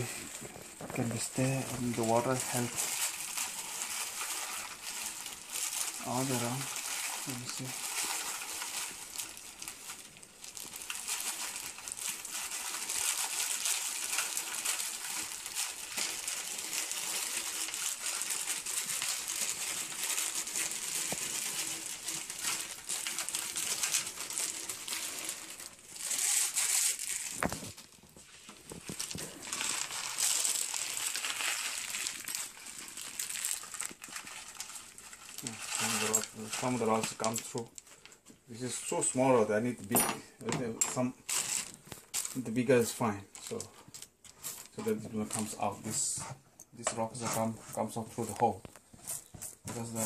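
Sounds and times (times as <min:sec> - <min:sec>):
pebbles rattling in container: 0:00.0 - 0:46.1.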